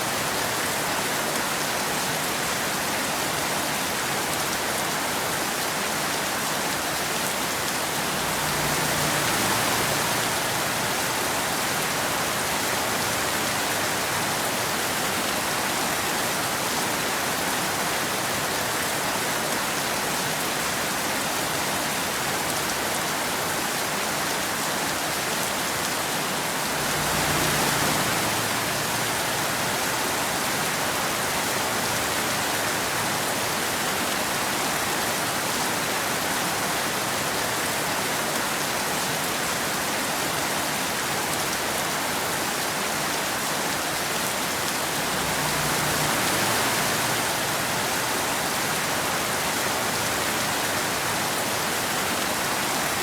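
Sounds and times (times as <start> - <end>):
rain falling on wet road: 0.0 - 53.0.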